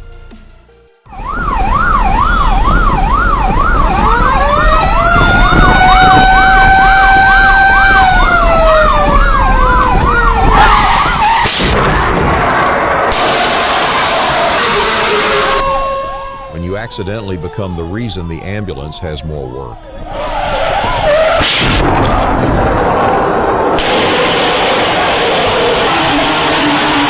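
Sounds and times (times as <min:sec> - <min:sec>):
low traffic rumble: 0:01.1 - 0:27.0
siren rising and falling: 0:01.1 - 0:27.0
siren yelp wail: 0:01.1 - 0:27.0.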